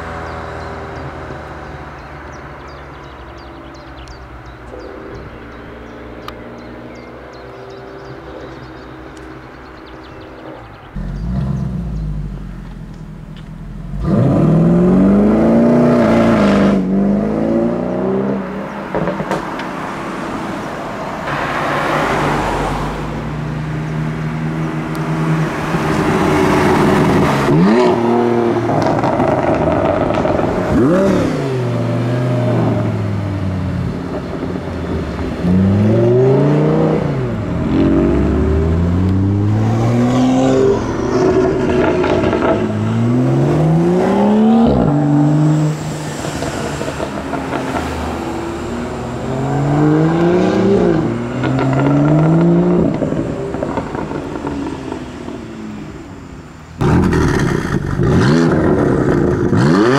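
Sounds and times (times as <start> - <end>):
sports car engines accelerating: 0.0 - 59.9.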